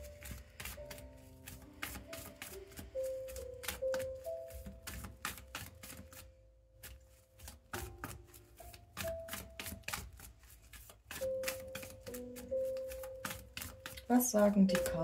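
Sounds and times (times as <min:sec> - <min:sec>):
cards shuffling: 0:00.0 - 0:14.1
soft background music: 0:00.0 - 0:15.0.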